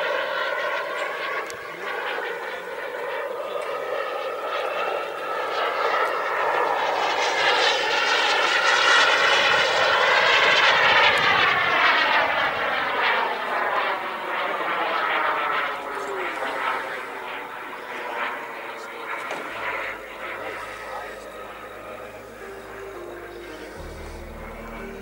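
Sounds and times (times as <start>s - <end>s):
model jet flying past: 0.0s - 25.0s.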